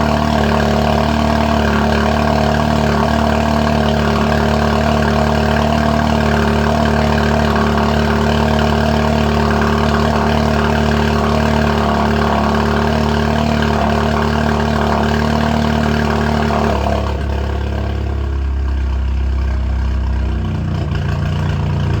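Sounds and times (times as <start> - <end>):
loud car engine idling: 0.0 - 22.0.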